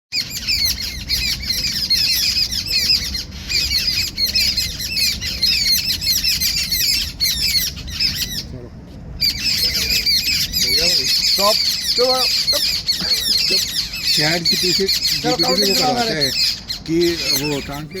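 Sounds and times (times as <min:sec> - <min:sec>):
flock of birds chirping: 0:00.1 - 0:18.0.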